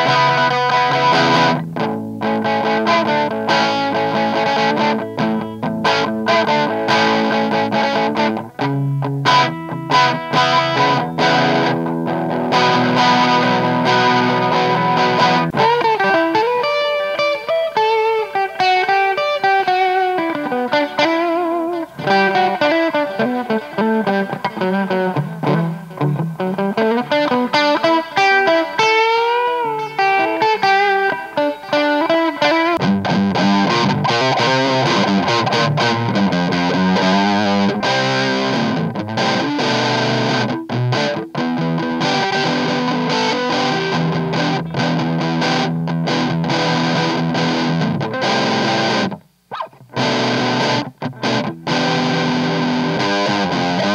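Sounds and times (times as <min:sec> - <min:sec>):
overdriven electric guitar melody: 0:00.0 - 0:53.9.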